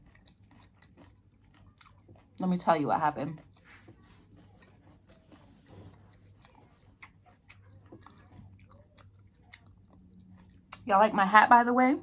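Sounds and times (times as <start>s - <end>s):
faint chewing of food: 0.0s - 10.9s.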